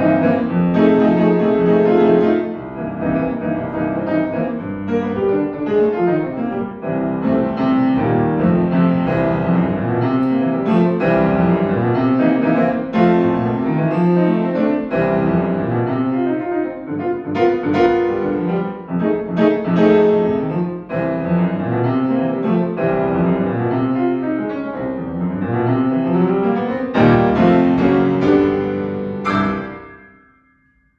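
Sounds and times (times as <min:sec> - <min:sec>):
solo jazz piano: 0:00.0 - 0:30.3.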